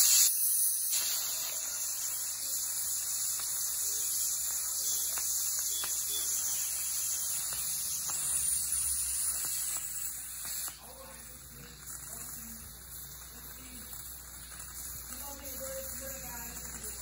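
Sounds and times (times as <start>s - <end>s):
pressure cooker hissing steam: 0.0s - 17.0s.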